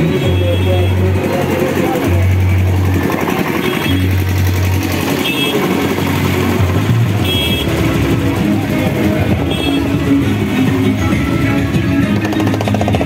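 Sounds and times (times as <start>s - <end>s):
distorted music over loudspeakers: 0.0s - 13.0s
large crowd noise: 0.0s - 13.0s.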